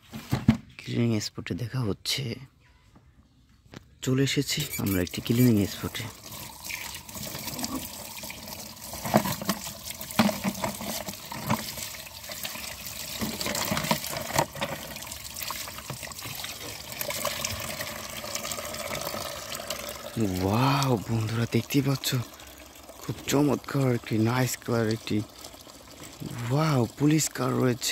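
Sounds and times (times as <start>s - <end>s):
water running into a bucket: 4.5s - 27.9s.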